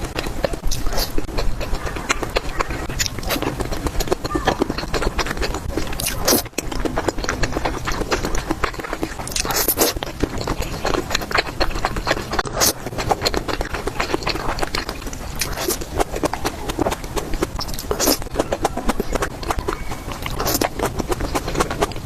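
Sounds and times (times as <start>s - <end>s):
mouth clicks: 0.0s - 22.0s
slurping: 0.0s - 22.0s
wet chewing: 0.0s - 22.0s.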